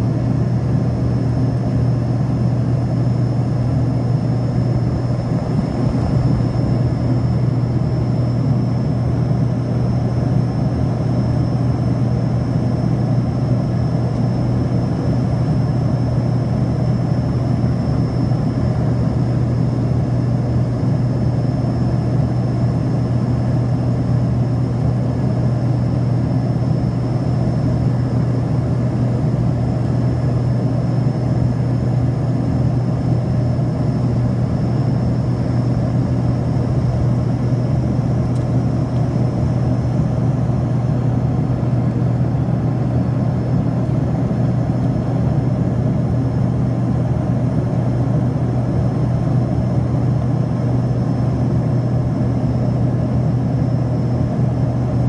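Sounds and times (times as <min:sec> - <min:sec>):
aircraft cabin engine drone: 0:00.0 - 0:55.0.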